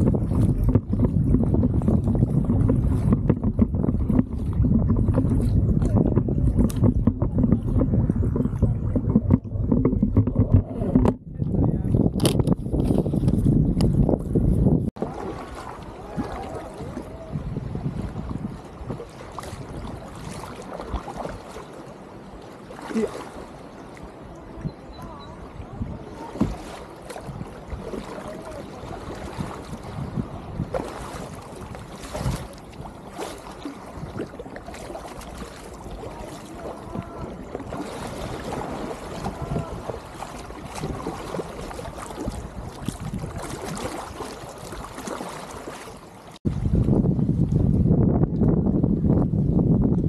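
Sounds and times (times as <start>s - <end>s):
kayak paddle dipping into water: 0.0s - 11.2s, 15.0s - 48.6s
water splashing: 0.0s - 11.2s, 14.9s - 47.8s
water rushing along a hull: 0.0s - 50.0s.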